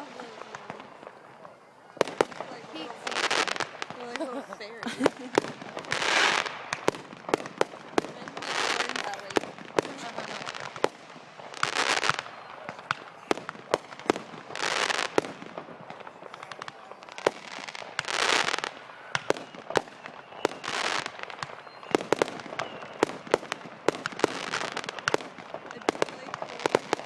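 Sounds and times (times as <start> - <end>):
fireworks hissing: 0.0 - 27.0
fireworks popping and banging: 0.0 - 27.0.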